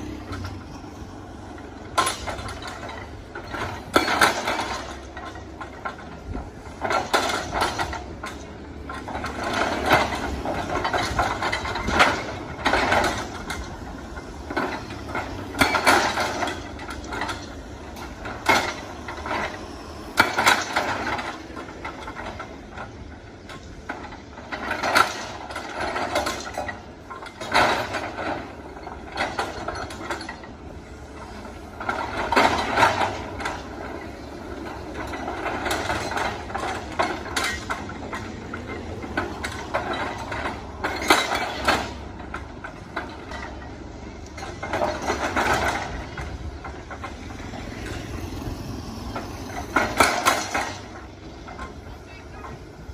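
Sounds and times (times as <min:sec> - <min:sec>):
excavator engine hum: 0:00.0 - 0:52.9.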